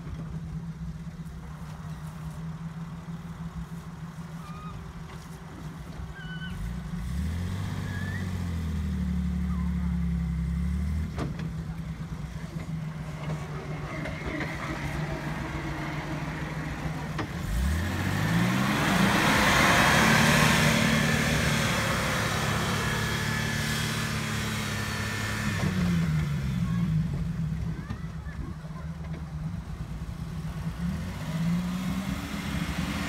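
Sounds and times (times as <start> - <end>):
van engine revving under load: 0.0 - 33.0.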